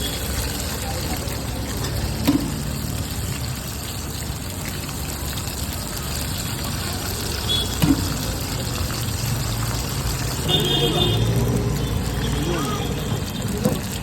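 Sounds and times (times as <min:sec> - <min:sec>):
food deep-frying in hot oil: 0:00.0 - 0:14.0.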